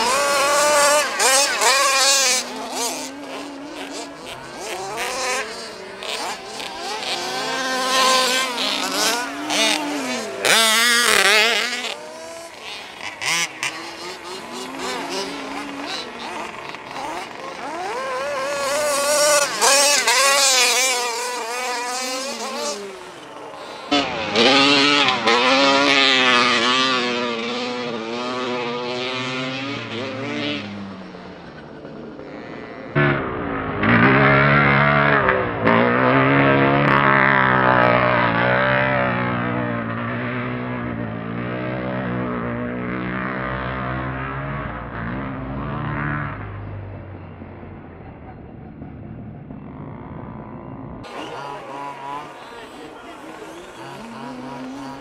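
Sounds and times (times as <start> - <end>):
two-stroke engine revving: 0.0 - 46.6, 48.8 - 55.0.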